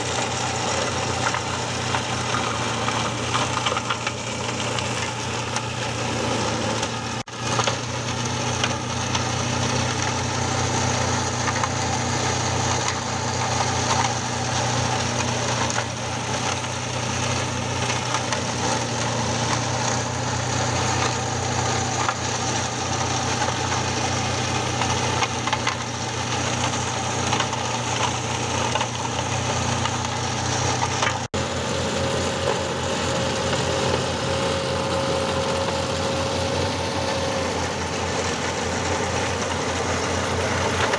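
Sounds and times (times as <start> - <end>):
tractor engine running: 0.0 - 40.9
wood crackling and splintering: 0.0 - 40.9.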